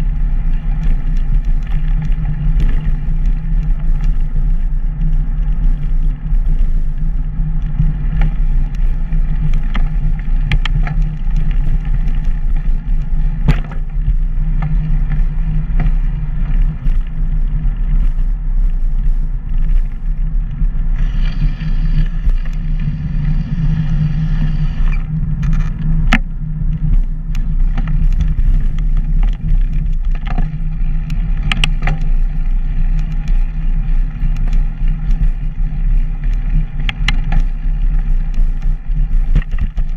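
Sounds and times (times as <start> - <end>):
sharp clicks and rattles: 0.0 - 39.9
wheels rumbling on pavement: 0.0 - 39.9
wind rush: 0.0 - 39.9.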